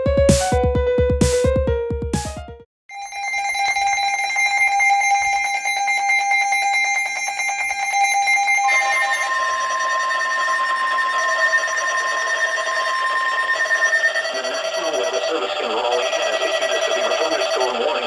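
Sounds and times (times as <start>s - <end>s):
electronic alert alarm tones: 2.9s - 18.0s.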